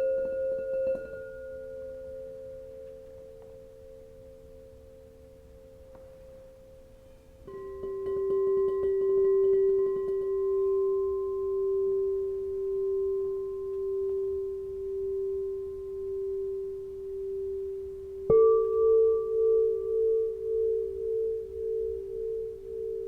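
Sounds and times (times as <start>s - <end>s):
crystal singing bowl tone: 0.0s - 23.0s.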